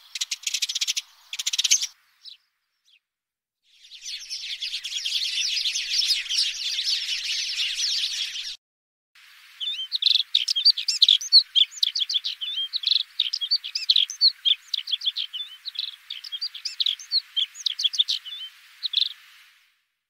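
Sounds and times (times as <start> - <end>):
bird singing high warble: 0.0 - 3.1, 3.7 - 8.6, 9.5 - 19.5.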